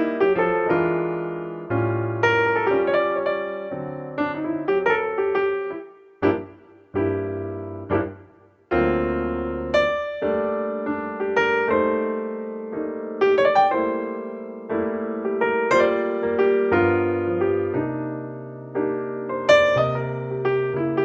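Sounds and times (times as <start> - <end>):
jazz piano chords: 0.0 - 21.0.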